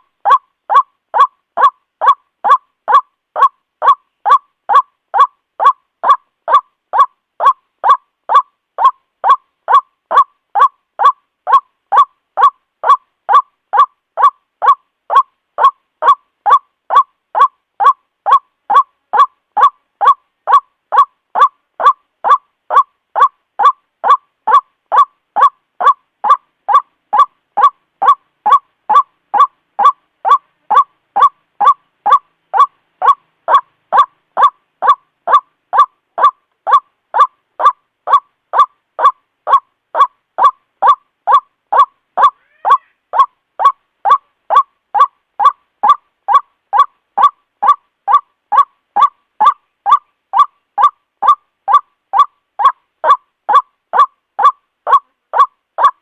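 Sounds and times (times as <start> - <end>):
waterhen croaking call: 0.0 - 56.0.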